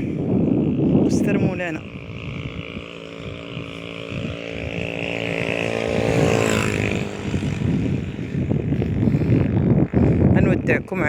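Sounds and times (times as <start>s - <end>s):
tyre and road noise: 0.0s - 11.0s
vehicle engine passing: 0.6s - 10.0s.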